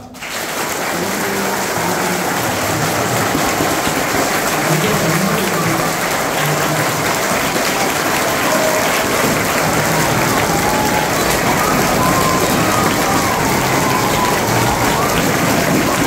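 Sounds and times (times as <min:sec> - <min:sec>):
crowd of children clapping: 0:00.0 - 0:16.0
faint voices calling out: 0:00.9 - 0:16.0.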